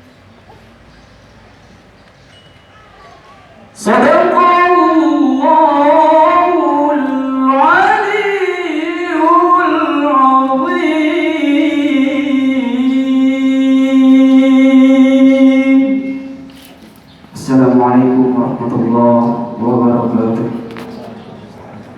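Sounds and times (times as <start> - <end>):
person reciting melodically: 3.6 - 21.9.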